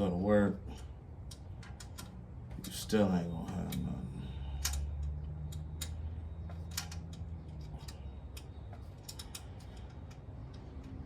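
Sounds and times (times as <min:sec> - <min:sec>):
hand tools clicking and clinking: 0:01.2 - 0:11.0.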